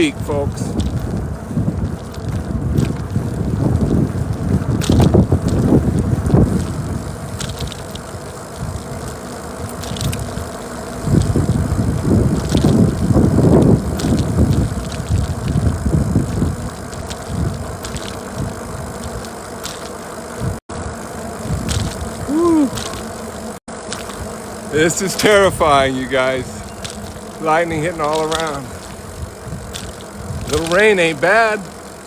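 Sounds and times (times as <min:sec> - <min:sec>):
sharp ticks: 0:00.0 - 0:20.6, 0:21.4 - 0:32.0
wind buffeting microphone: 0:00.0 - 0:20.6, 0:21.3 - 0:23.2, 0:24.2 - 0:31.7.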